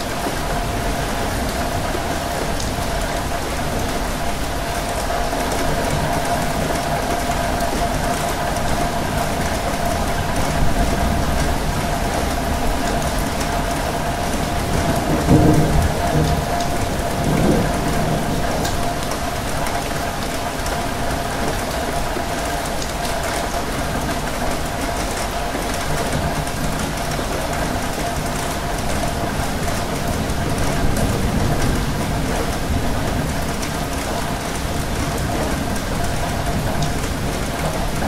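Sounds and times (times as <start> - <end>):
steady rain hissing: 0.0 - 38.0.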